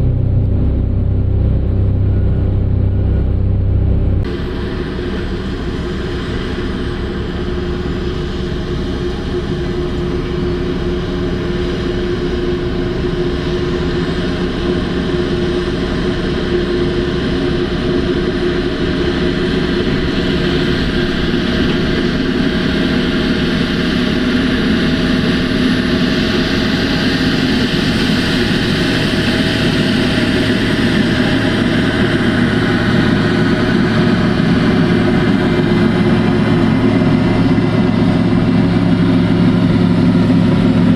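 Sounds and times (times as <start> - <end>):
heavy diesel engine droning: 0.0 - 40.9.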